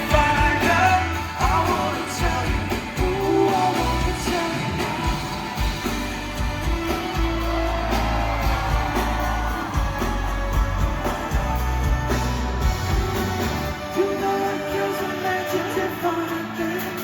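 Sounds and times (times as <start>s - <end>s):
heavy bass: 0.0s - 14.0s
steady drum beat: 0.0s - 14.5s
live pop band music: 0.0s - 17.0s.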